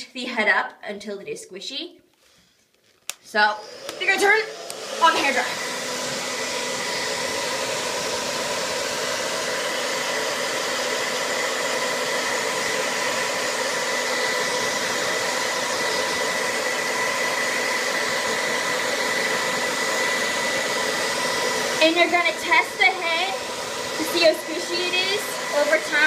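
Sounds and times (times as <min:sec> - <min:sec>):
hairdryer running: 0:03.2 - 0:26.0.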